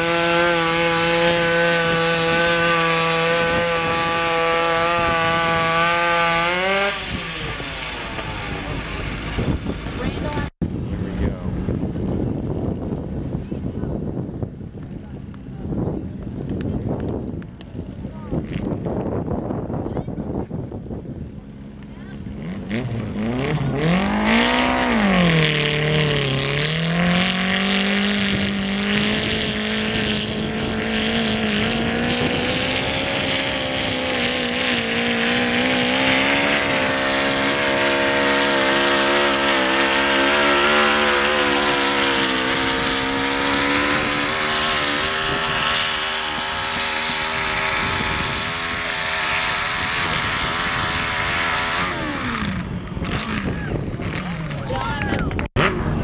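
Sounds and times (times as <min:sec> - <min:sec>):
tractor engine running hard: 0:00.0 - 0:56.0
wind buffeting microphone: 0:00.0 - 0:56.0.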